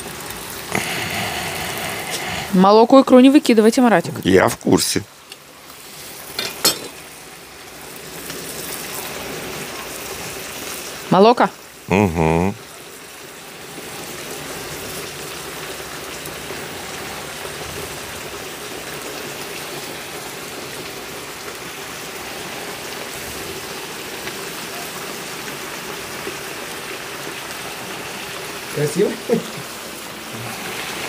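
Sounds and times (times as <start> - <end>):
potato slices sizzling in oil: 0.0 - 31.0.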